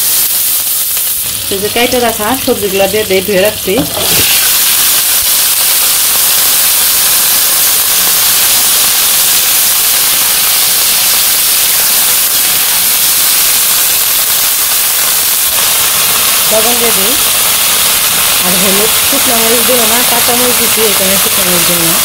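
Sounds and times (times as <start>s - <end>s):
vegetables sizzling in hot oil: 0.0s - 22.0s.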